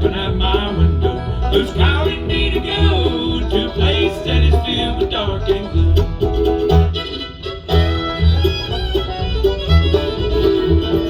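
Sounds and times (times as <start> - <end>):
bluegrass band playing: 0.0 - 11.0
fiddle melody: 0.0 - 11.0.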